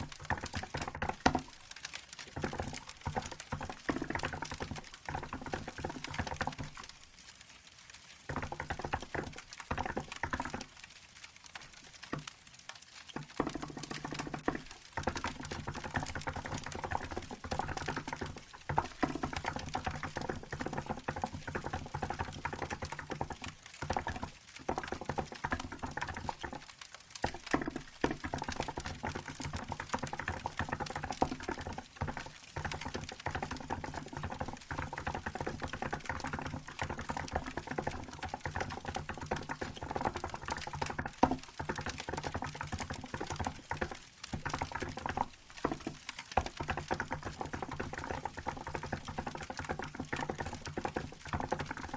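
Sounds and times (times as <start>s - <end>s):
crackling wood fire: 0.0s - 51.9s.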